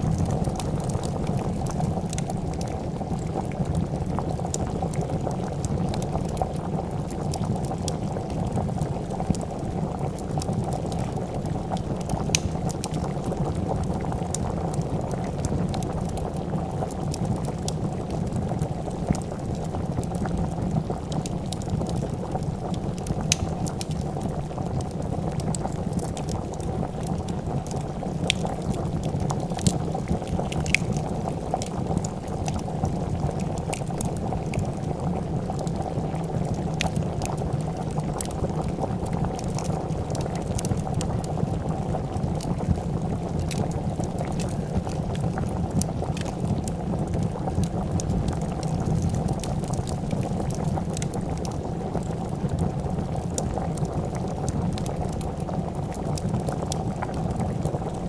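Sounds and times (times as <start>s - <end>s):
soup boiling and bubbling: 0.0s - 58.0s
wood fire crackling: 0.0s - 58.0s.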